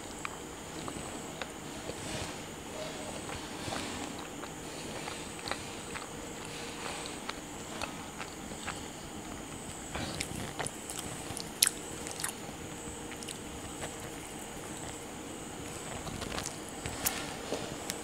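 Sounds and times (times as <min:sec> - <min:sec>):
chewing with mouth clicks: 0:00.0 - 0:18.0.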